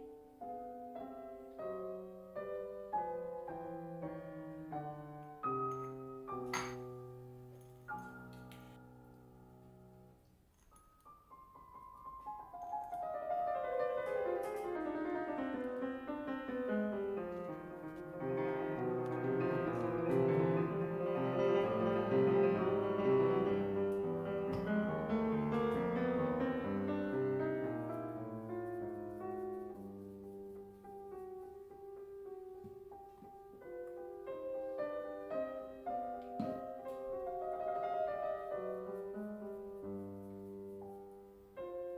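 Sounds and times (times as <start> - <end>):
solo piano piece: 0.0 - 41.9.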